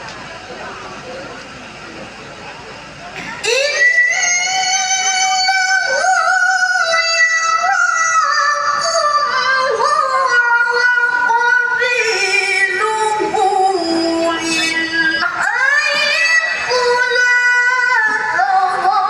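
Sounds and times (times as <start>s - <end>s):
woman chanting melodically: 3.3s - 19.0s.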